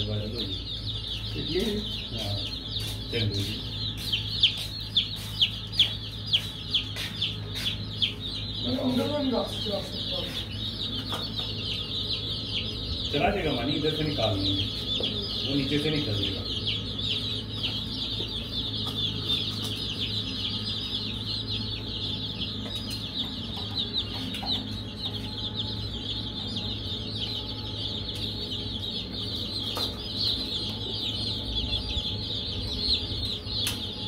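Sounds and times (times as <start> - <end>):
baby chicks peeping: 0.0 - 34.0
steady low hum: 0.0 - 34.0.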